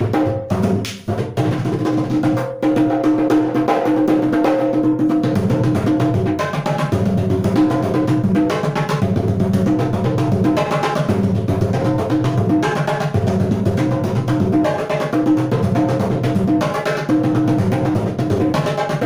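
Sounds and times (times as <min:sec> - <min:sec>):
fast conga drum solo: 0:00.0 - 0:19.0
music with steady beat: 0:00.0 - 0:19.0.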